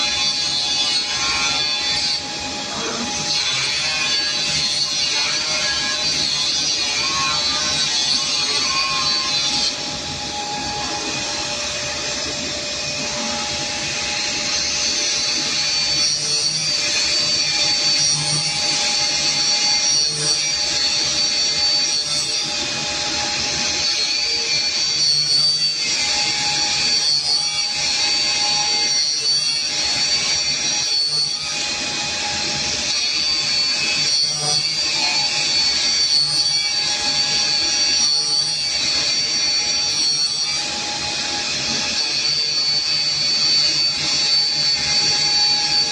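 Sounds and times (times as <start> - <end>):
high-pitched whine: 0.0 - 45.9.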